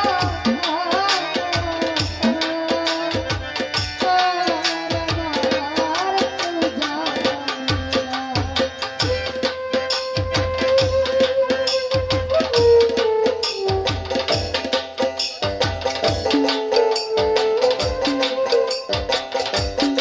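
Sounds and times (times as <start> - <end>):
hand drum strokes: 0.0 - 20.0.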